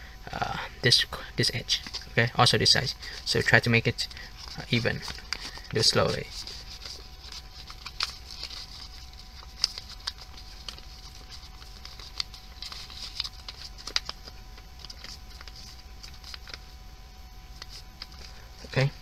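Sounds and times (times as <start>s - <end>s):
paper rustling and crinkling: 2.9s - 16.8s, 17.5s - 19.0s.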